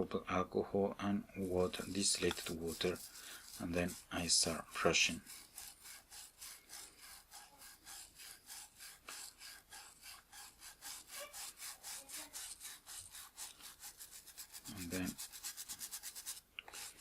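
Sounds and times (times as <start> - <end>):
brush scrubbing rubber: 1.3 - 17.0.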